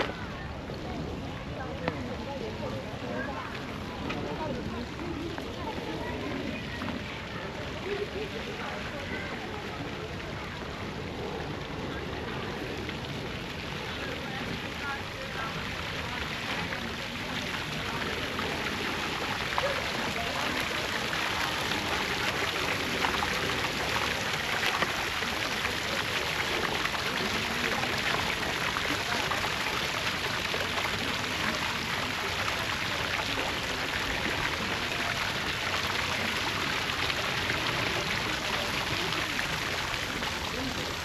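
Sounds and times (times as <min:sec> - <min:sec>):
falling water splashing: 0:00.0 - 0:41.0.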